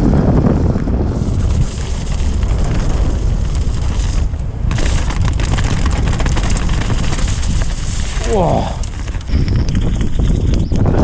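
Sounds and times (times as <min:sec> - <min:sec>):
wind rumble on microphone: 0:00.0 - 0:11.0
bike rattling clicks and knocks: 0:01.2 - 0:11.0.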